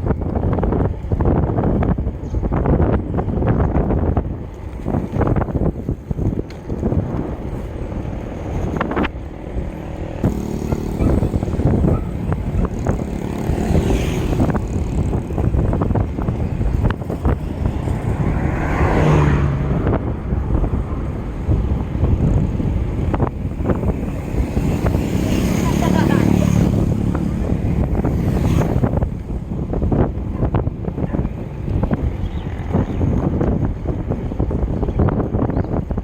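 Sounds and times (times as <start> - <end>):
wind rumbling on microphone: 0.0 - 36.0
vehicle engine humming past: 4.6 - 33.5.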